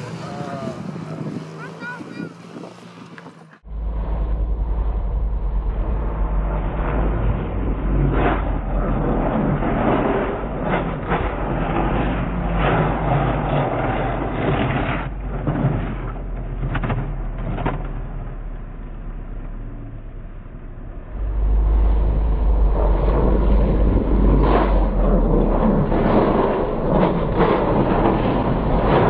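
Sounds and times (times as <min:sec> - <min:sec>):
motorbike scraping on road: 0:00.0 - 0:29.0
rough engine rumble: 0:00.0 - 0:29.0.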